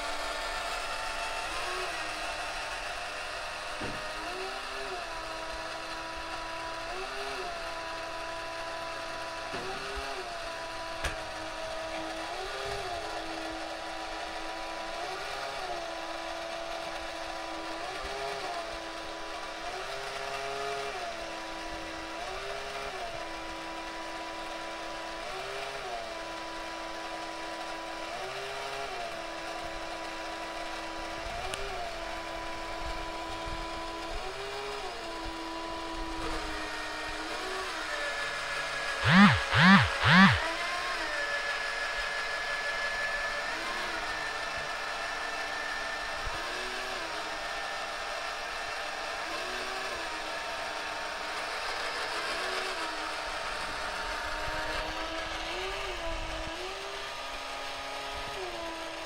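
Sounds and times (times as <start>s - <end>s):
toy motor humming: 0.0s - 59.0s.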